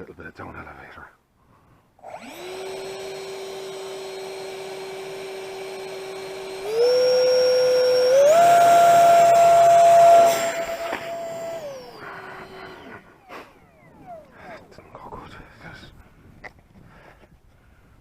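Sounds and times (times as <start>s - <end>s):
electric fan motor whine: 2.0s - 16.4s.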